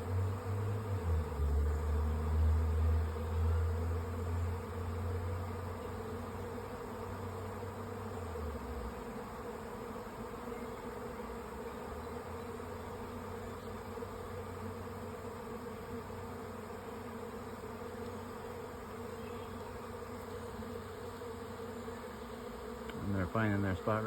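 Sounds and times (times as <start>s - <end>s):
bee swarm buzzing: 0.0s - 24.0s.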